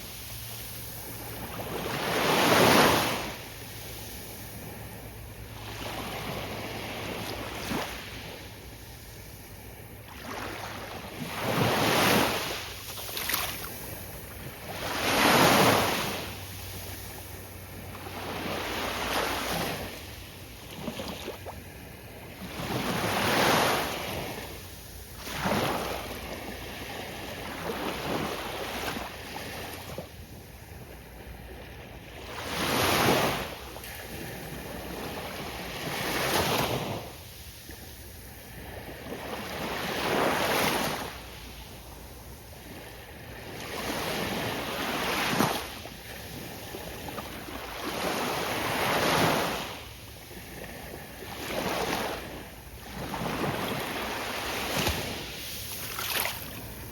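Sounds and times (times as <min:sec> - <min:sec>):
ocean waves breaking on beach: 0:00.0 - 0:56.9.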